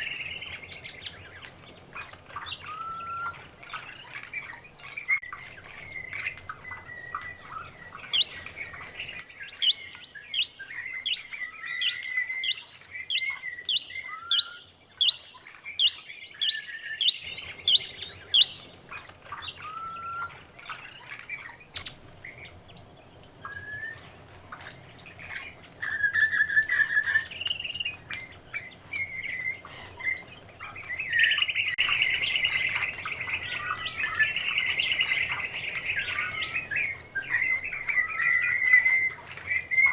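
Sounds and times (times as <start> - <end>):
birds chirping: 0.0 - 39.9
birds twittering chorus: 0.0 - 39.9.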